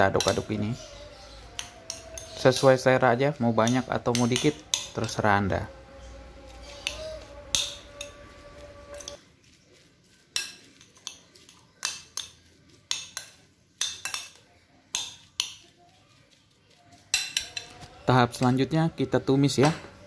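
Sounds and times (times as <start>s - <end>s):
metal spoon scraping a bowl: 0.0s - 18.5s.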